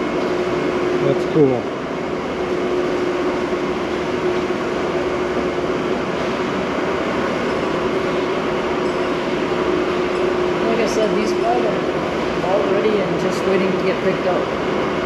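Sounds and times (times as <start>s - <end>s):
faint constant hum: 0.0s - 15.0s
ventilation fans whirring: 0.0s - 15.0s.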